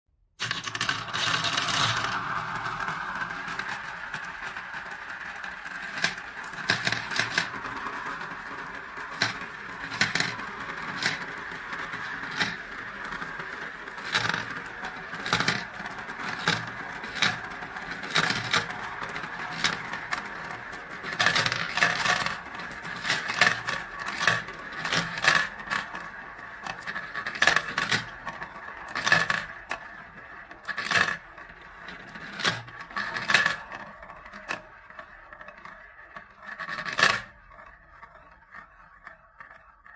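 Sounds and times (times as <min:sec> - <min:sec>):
marbles clacking: 0:00.4 - 0:35.5
marbles rolling in plastic bowls: 0:00.4 - 0:39.9.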